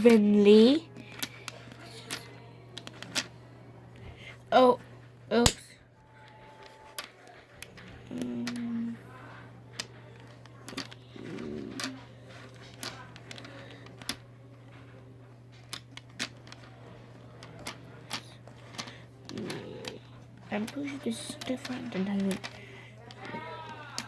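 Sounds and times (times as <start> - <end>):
magnetic balls clicking together: 0.0 - 4.1, 5.3 - 9.0, 9.7 - 14.3, 15.5 - 24.0
steady low hum: 0.0 - 24.0.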